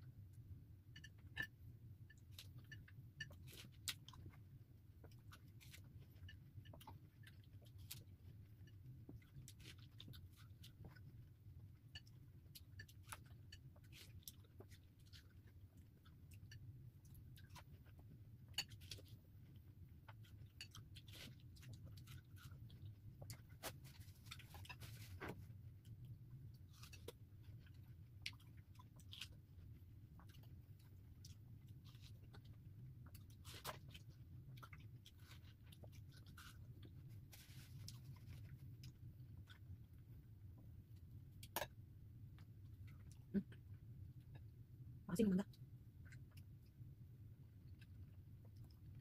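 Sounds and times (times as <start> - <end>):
chewing watermelon: 2.1 - 41.6.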